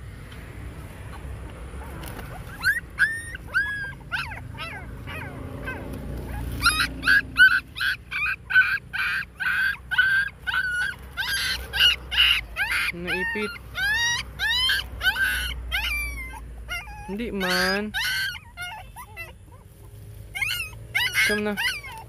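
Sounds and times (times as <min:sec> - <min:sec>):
puppies whimpering and crying: 0:01.1 - 0:22.0.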